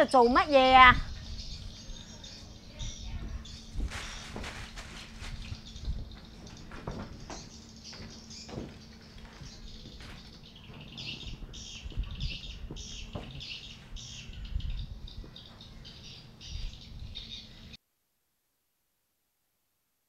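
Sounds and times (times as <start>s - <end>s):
birds chirping: 0.0s - 17.8s.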